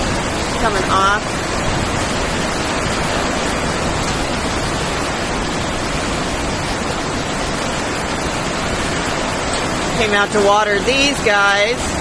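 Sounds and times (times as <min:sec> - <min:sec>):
rain pouring off a roof: 0:00.0 - 0:12.0.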